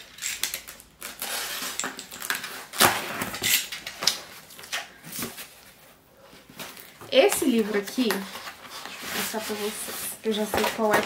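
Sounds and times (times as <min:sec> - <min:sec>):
cardboard rustling and tearing: 0:00.6 - 0:05.6, 0:06.6 - 0:11.0.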